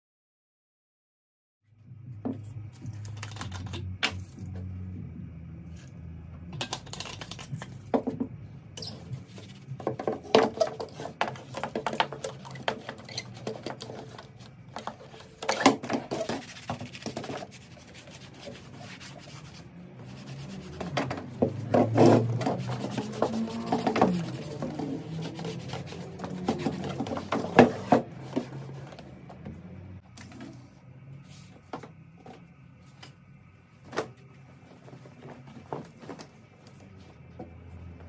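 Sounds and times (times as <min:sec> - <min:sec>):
steady low hum: 0:01.7 - 0:38.0.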